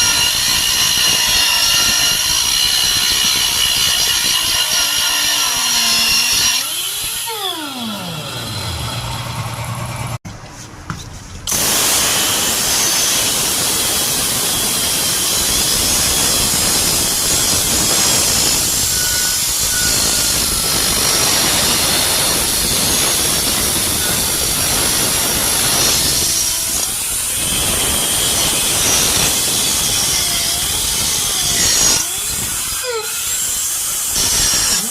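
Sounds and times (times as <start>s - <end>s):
pneumatic air grinder running: 0.0s - 10.2s, 11.5s - 34.9s.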